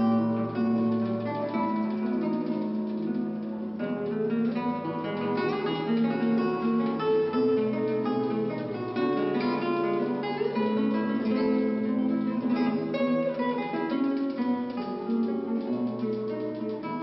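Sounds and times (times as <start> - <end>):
fingerpicked classical guitar: 0.0 - 17.0.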